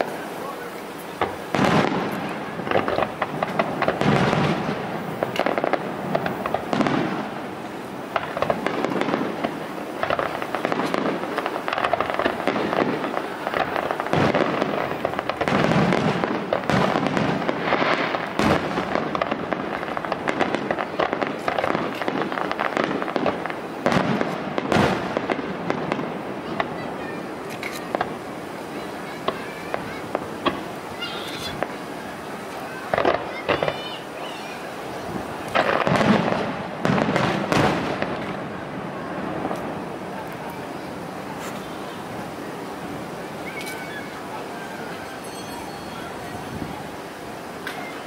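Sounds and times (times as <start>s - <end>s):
firework shells booming: 0.0s - 44.2s
firework crackling: 0.0s - 48.0s.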